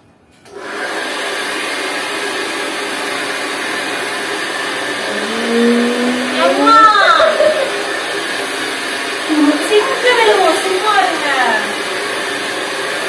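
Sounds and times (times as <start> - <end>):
hair dryer blowing: 0.5 - 13.0.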